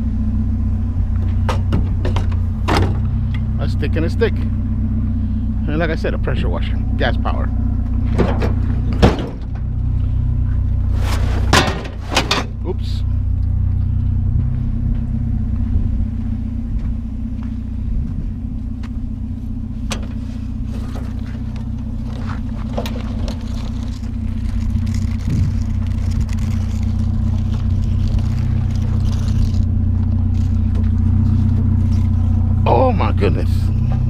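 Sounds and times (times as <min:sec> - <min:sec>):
vehicle engine droning: 0:00.0 - 0:34.0.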